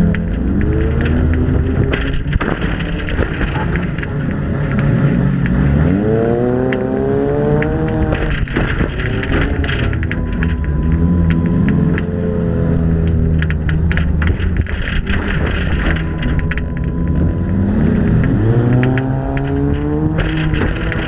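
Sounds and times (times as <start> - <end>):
clicks and rattles: 0.0 - 5.6, 6.6 - 12.2, 13.0 - 21.0
car engine revving: 0.0 - 21.0.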